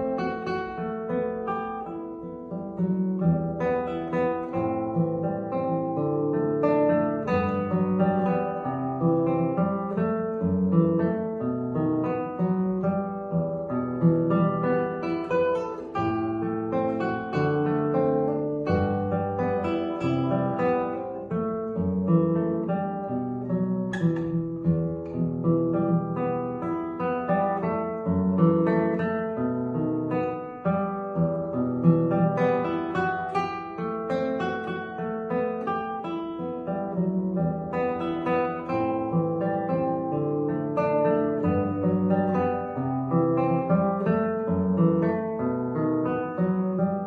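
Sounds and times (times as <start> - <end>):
classical guitar plucked: 0.0 - 47.0.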